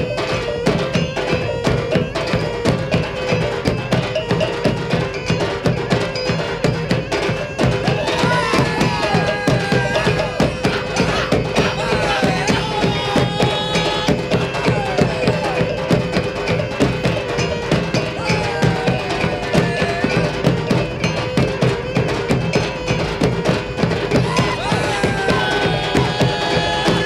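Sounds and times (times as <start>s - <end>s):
rapid drumming: 0.0s - 27.0s.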